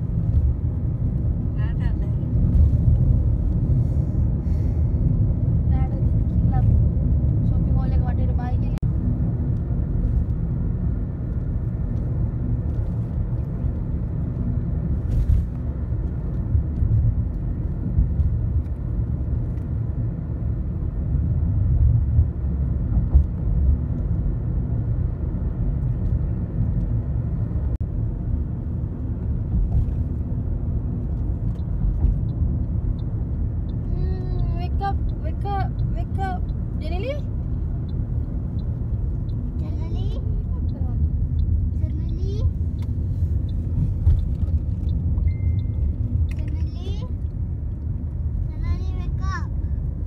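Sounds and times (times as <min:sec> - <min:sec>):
road and engine rumble: 0:00.0 - 0:50.0.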